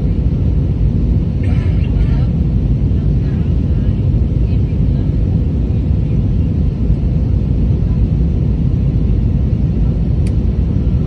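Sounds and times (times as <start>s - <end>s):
airplane engine rumble: 0.0s - 11.0s.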